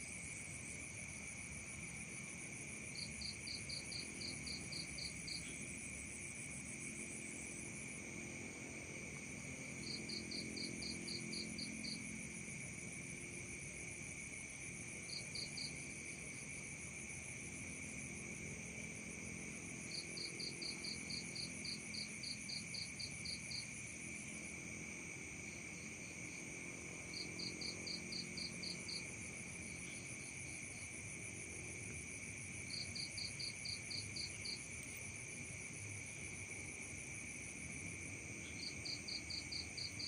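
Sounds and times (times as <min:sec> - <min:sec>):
crickets and insects trilling: 0:00.0 - 0:40.0
cricket chirping in quick pulses: 0:02.6 - 0:12.9, 0:13.8 - 0:40.0.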